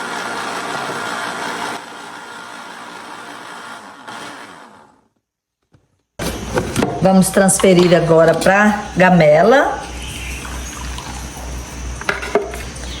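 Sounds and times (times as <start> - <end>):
blender whirring: 0.0 - 5.2, 6.2 - 13.0.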